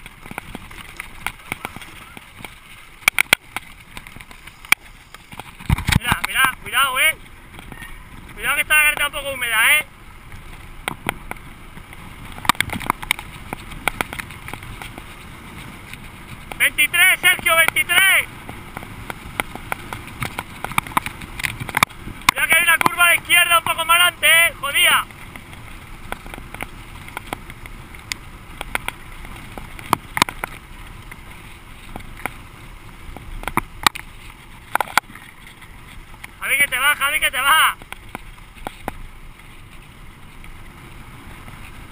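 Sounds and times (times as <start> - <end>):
bike frame and chain rattling: 0.0 - 40.7.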